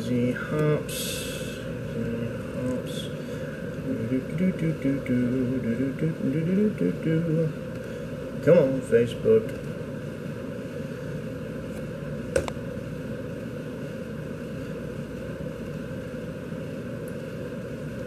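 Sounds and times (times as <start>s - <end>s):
room hum and hiss: 0.0s - 18.0s.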